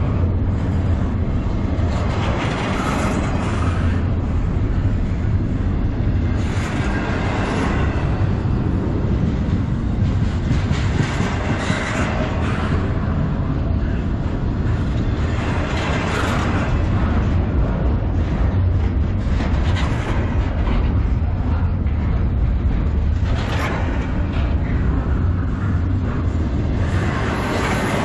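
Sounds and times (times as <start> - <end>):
steel wheels rumbling on rail: 0.0 - 28.0.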